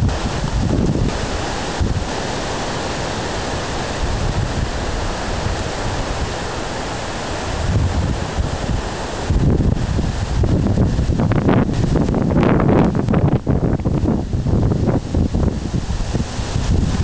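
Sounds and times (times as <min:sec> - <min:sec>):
storm wind rushing through trees: 0:00.0 - 0:17.0
wind buffeting microphone: 0:00.0 - 0:17.0.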